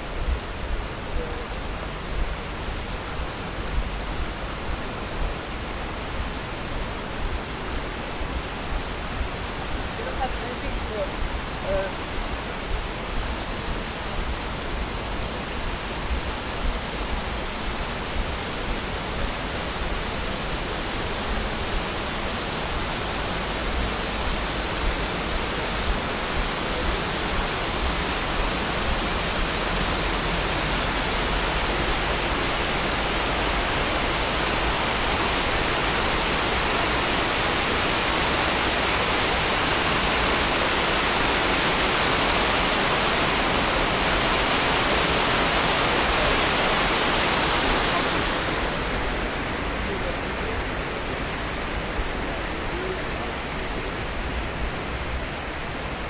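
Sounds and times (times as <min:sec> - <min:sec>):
rushing stream water: 0:00.0 - 0:56.0.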